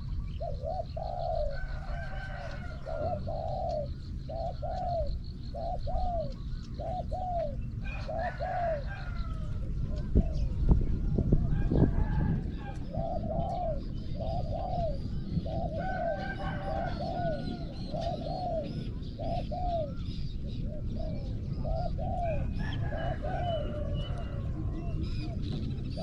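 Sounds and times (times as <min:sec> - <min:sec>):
doves cooing: 0:00.0 - 0:26.0
small birds chirping: 0:00.0 - 0:26.0.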